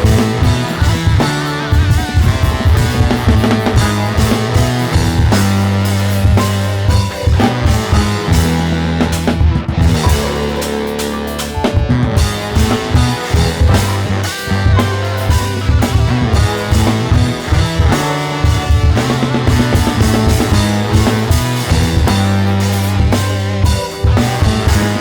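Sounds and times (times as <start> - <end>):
drum kit: 0.0 - 25.0
electric guitar: 0.0 - 25.0
low bass notes: 0.0 - 25.0.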